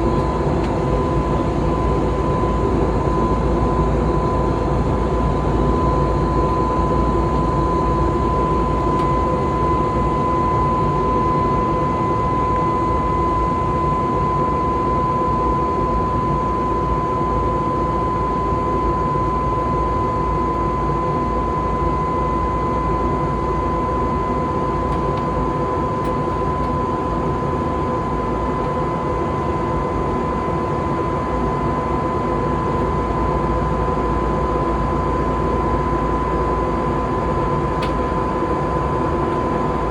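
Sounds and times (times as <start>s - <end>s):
jet cabin engine rush: 0.0s - 39.9s.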